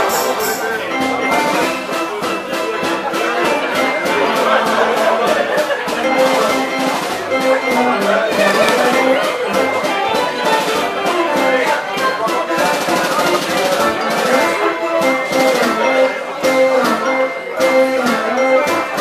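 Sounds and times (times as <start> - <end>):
dance organ playing dance music: 0.0 - 19.0.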